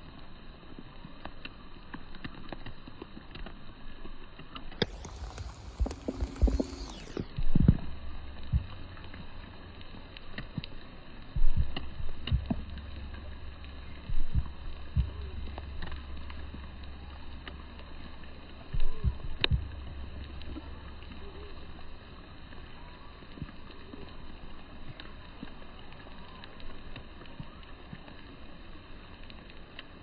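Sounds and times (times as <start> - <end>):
rain falling: 4.7 - 30.0
low steady rumble: 4.9 - 30.0.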